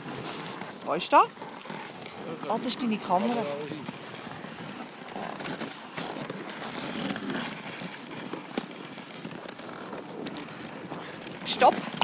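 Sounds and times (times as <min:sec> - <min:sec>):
paws on snow: 0:00.0 - 0:12.0.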